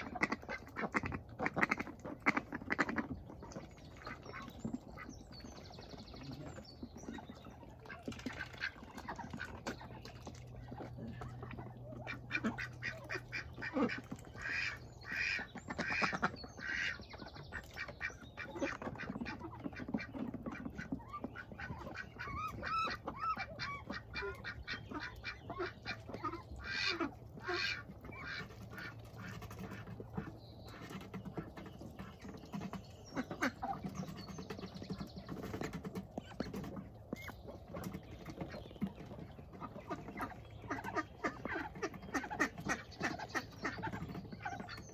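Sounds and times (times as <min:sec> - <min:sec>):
ducks dabbling in water: 0:00.0 - 0:44.9
ducks quacking: 0:00.0 - 0:44.9.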